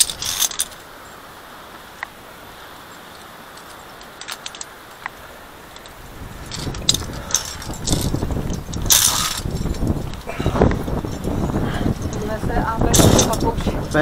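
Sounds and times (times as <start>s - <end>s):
carabiners clinking on steel cable: 0.0s - 1.2s, 2.8s - 14.0s
wind buffeting microphone: 0.0s - 14.0s.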